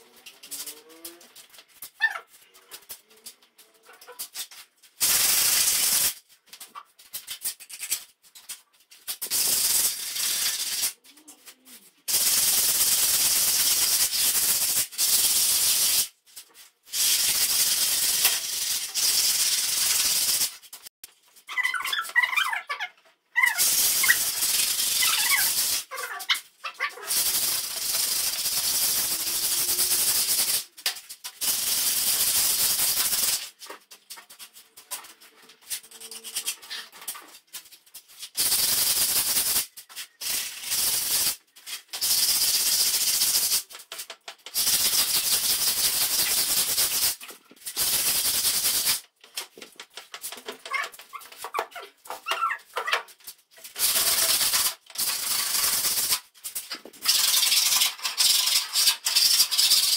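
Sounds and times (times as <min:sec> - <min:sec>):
scratchy hiss on concrete wall: 0:04.2 - 0:20.9, 0:23.6 - 0:26.4, 0:27.1 - 0:50.3, 0:52.6 - 0:59.9.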